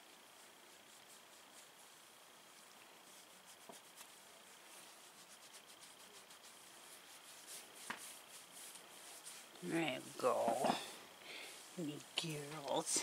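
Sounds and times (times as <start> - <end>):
hands rubbing dog's coat: 0.1 - 10.8.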